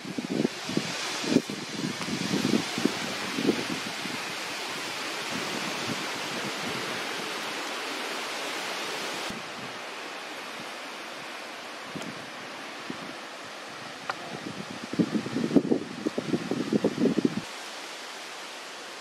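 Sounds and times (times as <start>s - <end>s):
wind rushing through trees: 0.0s - 19.0s.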